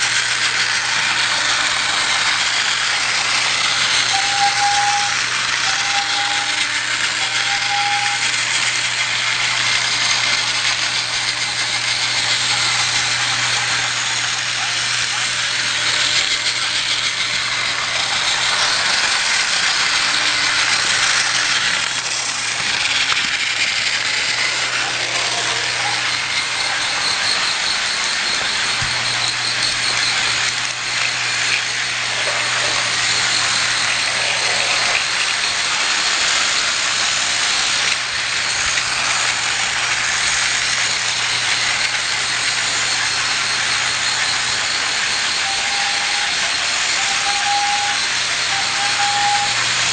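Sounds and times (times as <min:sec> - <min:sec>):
toy train whirring: 0:00.0 - 0:49.9.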